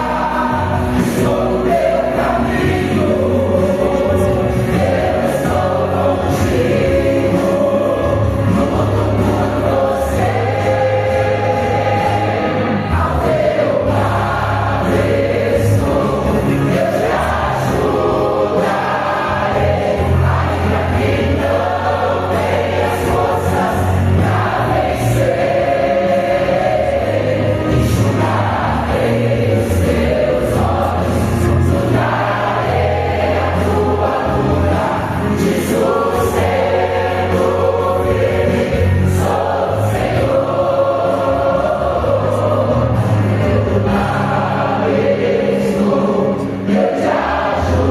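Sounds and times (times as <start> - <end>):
choir singing gospel: 0.0 - 47.9
instrumental accompaniment with bass: 0.0 - 47.9.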